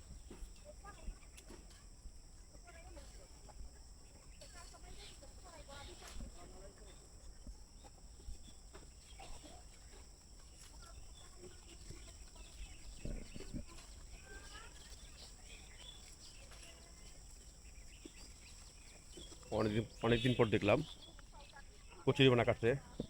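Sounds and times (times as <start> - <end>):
bird chirps: 2.5 - 23.0.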